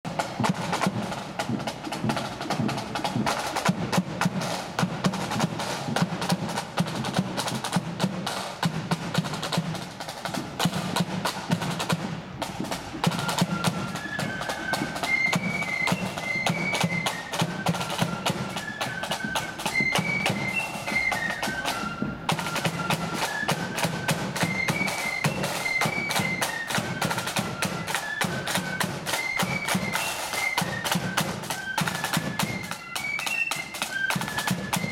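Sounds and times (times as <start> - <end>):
fast snare drumming: 0.1 - 34.9.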